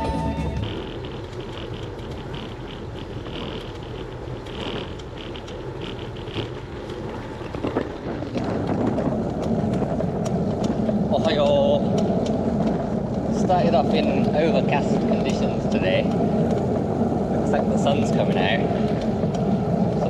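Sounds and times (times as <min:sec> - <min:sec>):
bicycle creaks and ticks: 0:00.0 - 0:20.0
low rumble: 0:00.0 - 0:20.0
wind on microphone: 0:00.0 - 0:20.0.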